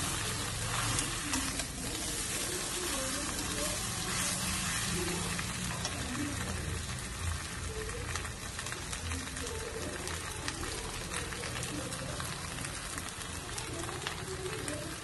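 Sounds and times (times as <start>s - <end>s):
fish frying in oil: 0.0s - 15.0s.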